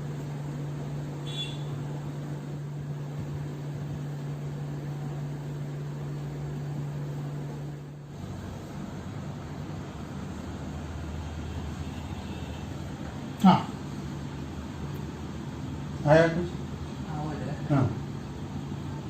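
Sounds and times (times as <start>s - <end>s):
low machine hum: 0.0s - 19.0s
noise haze: 0.0s - 19.0s.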